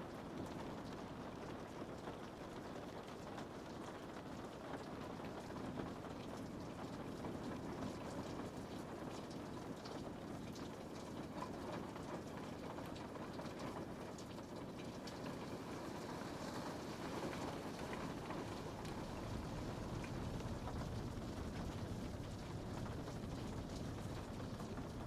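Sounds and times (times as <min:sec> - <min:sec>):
rain on window: 0:00.0 - 0:25.0
raindrop ticks: 0:04.7 - 0:25.0.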